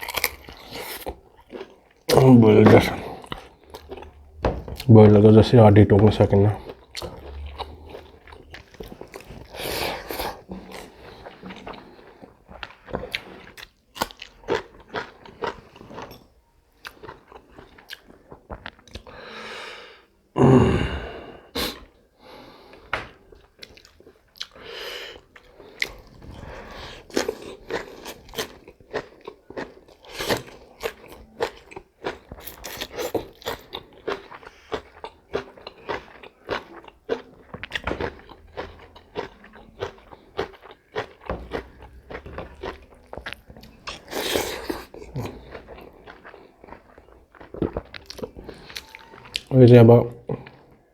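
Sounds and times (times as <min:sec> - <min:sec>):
chewing and crunching chicken: 0:00.0 - 0:19.3, 0:21.7 - 0:50.9.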